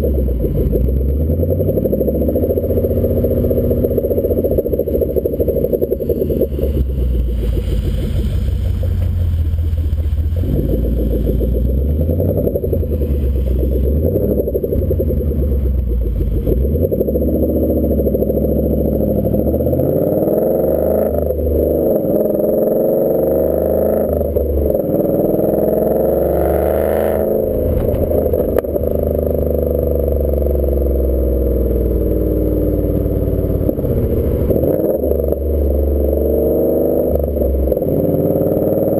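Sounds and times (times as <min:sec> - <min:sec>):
car exhaust revving: 0:00.0 - 0:38.9.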